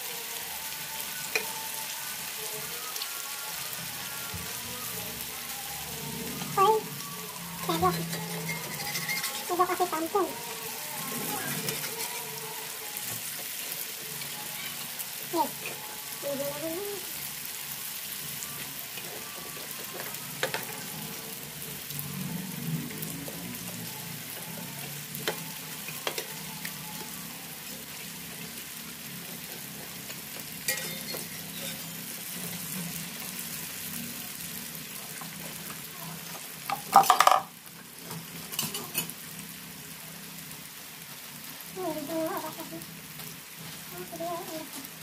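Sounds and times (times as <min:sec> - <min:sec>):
crackers sizzling in hot oil: 0:00.0 - 0:45.0.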